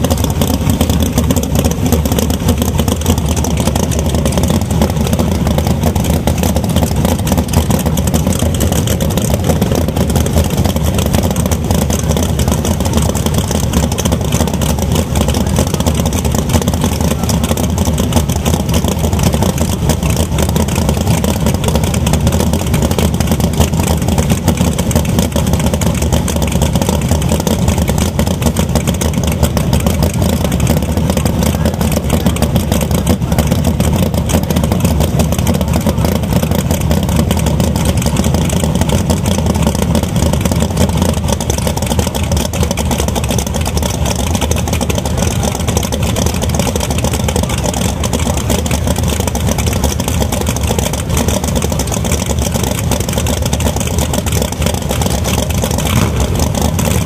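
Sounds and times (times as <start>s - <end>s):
drag car engines idling: 0.0s - 57.0s.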